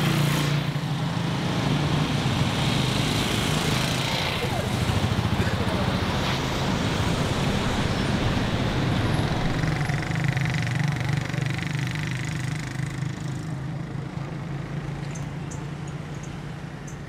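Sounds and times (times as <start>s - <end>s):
motorcycle engines running: 0.0s - 17.0s
street traffic rumble: 0.0s - 17.0s.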